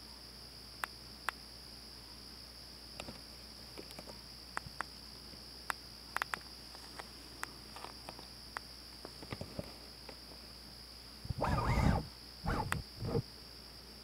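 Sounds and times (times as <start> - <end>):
night insects chorus: 0.0 - 14.0.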